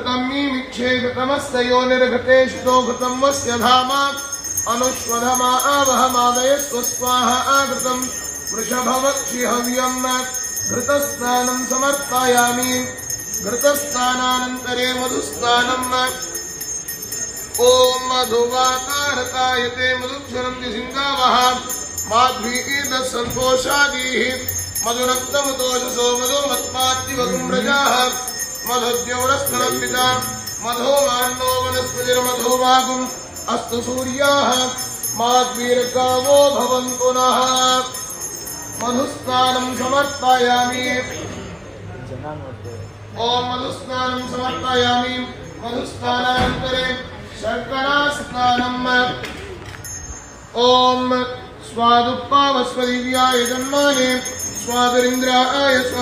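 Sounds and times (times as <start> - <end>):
bells jingling: 2.4 - 56.0.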